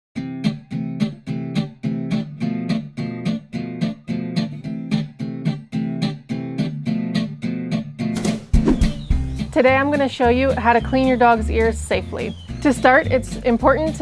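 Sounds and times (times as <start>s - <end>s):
acoustic guitar strumming: 0.2s - 14.0s.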